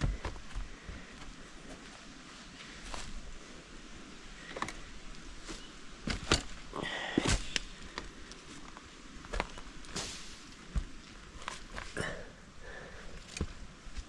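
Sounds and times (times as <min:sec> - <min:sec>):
footsteps on rocks and twigs: 0:00.0 - 0:03.8, 0:04.4 - 0:12.1.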